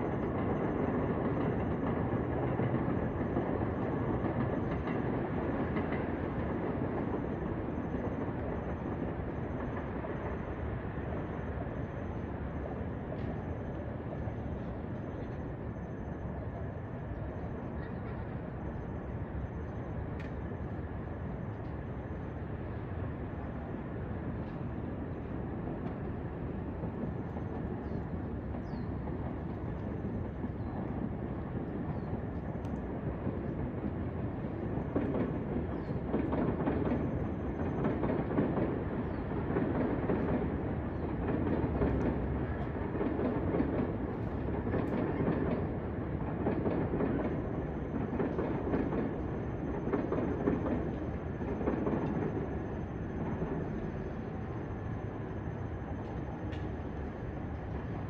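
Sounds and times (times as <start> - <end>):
electric train rumble: 0.0 - 58.0.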